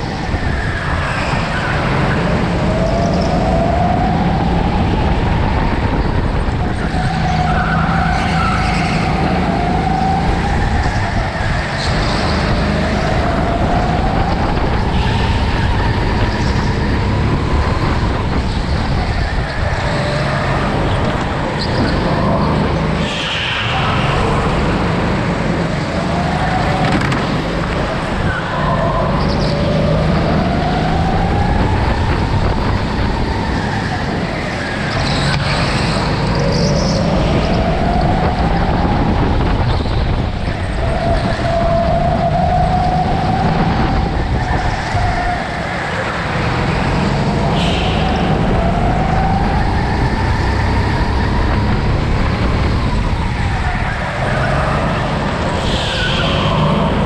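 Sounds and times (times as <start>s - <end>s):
go-kart engine rumble and whine: 0.0s - 57.0s.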